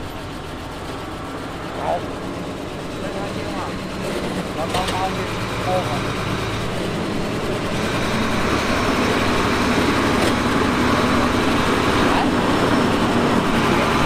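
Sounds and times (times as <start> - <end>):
heavy machinery diesel engine running: 0.0 - 14.0.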